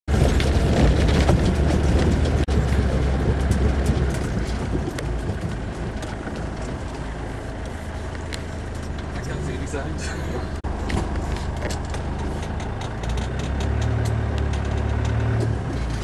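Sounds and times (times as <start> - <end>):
knocks and rattles: 0.1 - 7.6, 10.6 - 16.0
off-road vehicle engine rumble: 0.1 - 16.0.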